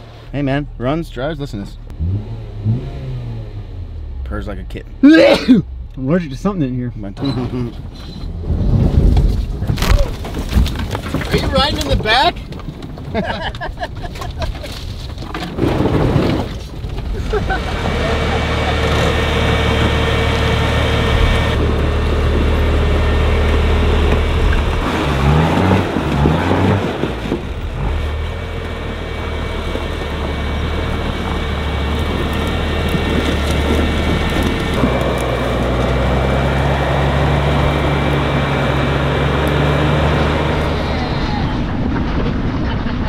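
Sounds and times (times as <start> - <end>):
engine revving: 0.0 - 9.2, 17.3 - 42.8
off-road vehicle engines droning: 0.0 - 10.4, 16.7 - 43.0.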